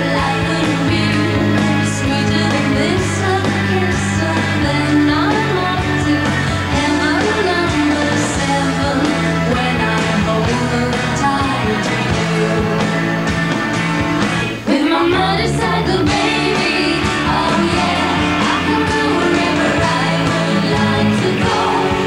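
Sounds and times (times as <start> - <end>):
woman singing lead vocal: 0.0 - 13.0, 14.7 - 22.0
rock band playing: 0.0 - 22.0.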